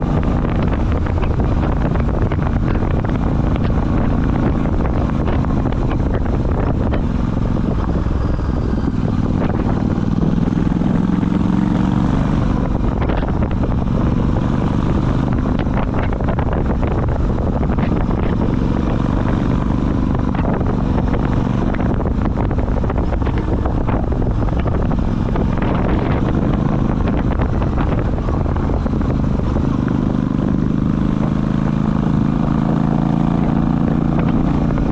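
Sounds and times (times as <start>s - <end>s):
motorcycle engine riding: 0.0s - 34.9s
wind buffeting microphone: 0.0s - 34.9s.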